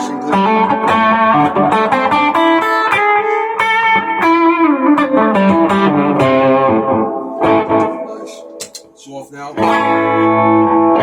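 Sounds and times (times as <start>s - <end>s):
overdriven electric guitar lead: 0.0s - 8.9s, 9.6s - 11.0s.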